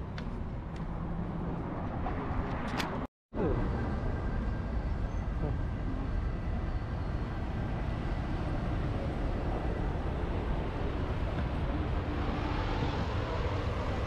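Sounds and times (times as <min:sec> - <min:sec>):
city traffic: 0:00.0 - 0:14.0.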